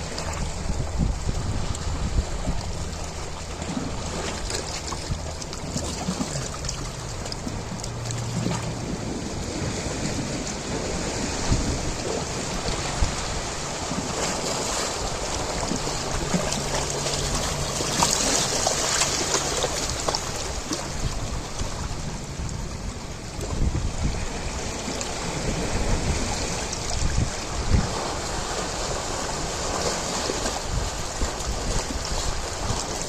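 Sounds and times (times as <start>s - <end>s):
ocean waves washing in: 0.0s - 33.0s.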